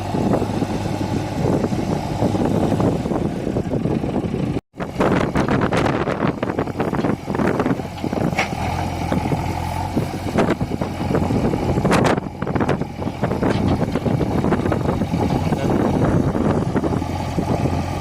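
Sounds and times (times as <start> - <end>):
diesel engines running under load: 0.0 - 18.0.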